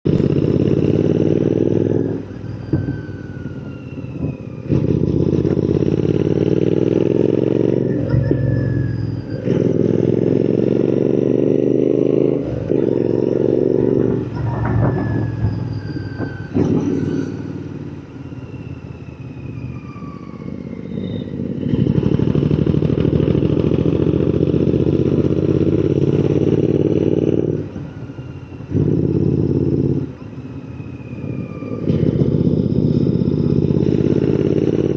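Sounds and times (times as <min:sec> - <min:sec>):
motorcycle engine accelerating: 0:00.1 - 0:02.3, 0:04.2 - 0:18.6, 0:20.0 - 0:30.1, 0:31.2 - 0:34.9.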